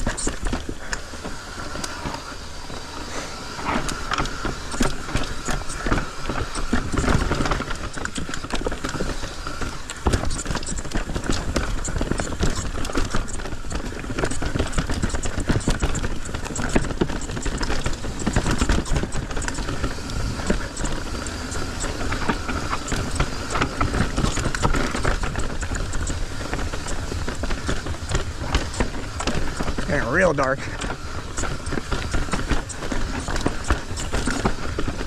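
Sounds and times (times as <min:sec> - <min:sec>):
mountain bike clattering and rattling: 0:00.0 - 0:35.0.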